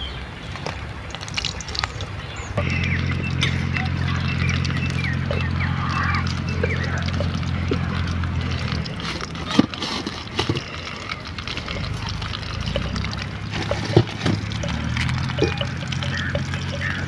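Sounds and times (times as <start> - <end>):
crisp pastries crunching: 0.6 - 17.0
low hum: 1.0 - 17.0.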